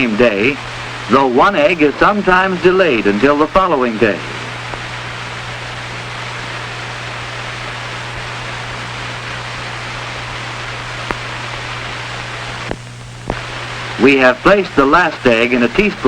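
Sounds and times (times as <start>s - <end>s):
film soundtrack hiss: 0.0s - 16.0s.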